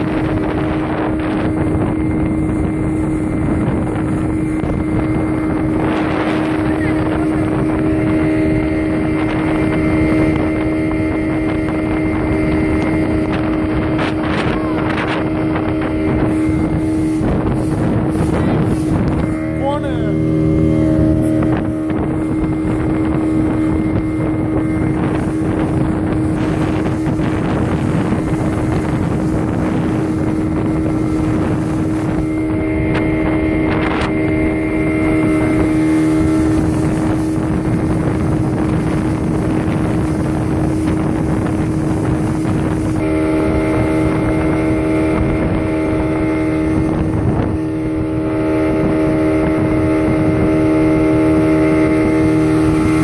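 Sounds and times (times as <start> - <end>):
hull rushing through water: 0.0 - 53.0
speedboat engine droning: 0.0 - 53.0
wind buffeting microphone: 0.0 - 53.0.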